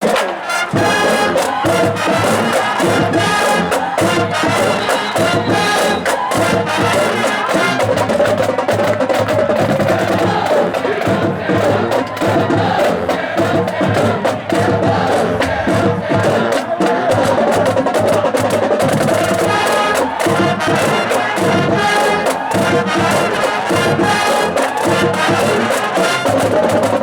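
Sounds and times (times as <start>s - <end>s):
band playing brass and drums: 0.0s - 27.0s.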